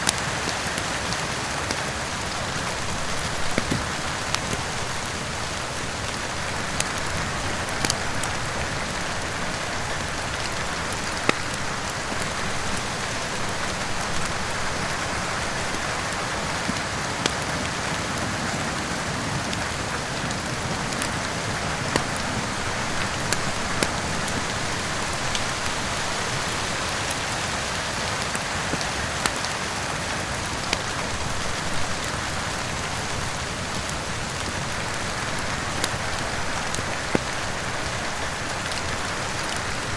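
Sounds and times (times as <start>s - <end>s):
fireplace fire crackling: 0.0s - 39.9s
steady rain: 0.0s - 39.9s.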